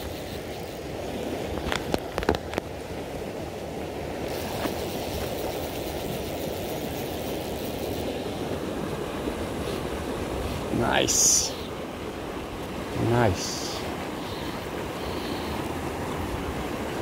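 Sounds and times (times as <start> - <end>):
river current rushing: 0.0 - 17.0.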